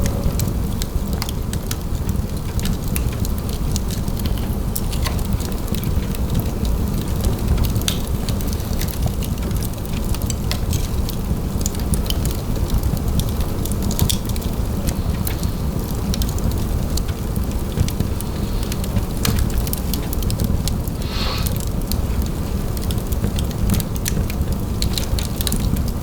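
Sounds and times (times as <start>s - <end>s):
fire crackling in a fireplace: 0.0s - 26.0s.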